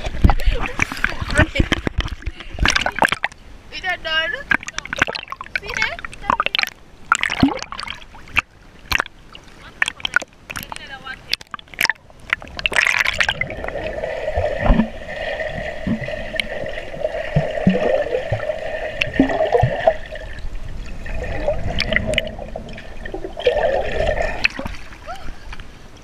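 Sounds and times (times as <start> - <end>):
low underwater thumps: 0.0 - 3.4, 4.5 - 9.2, 9.8 - 24.9
muffled underwater rushing: 4.4 - 25.5.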